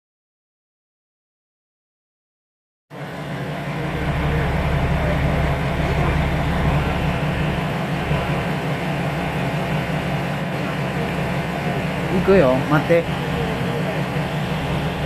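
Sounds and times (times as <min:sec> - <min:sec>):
train running: 0:02.9 - 0:15.0.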